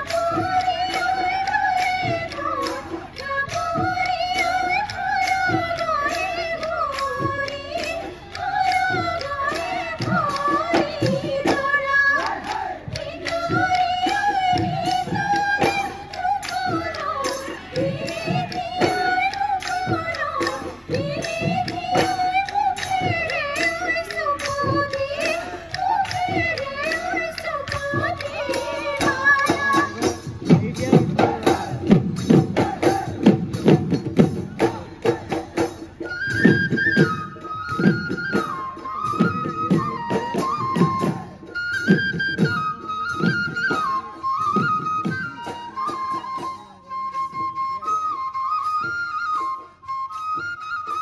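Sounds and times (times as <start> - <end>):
drums beating steady rhythm: 0.0 - 51.0.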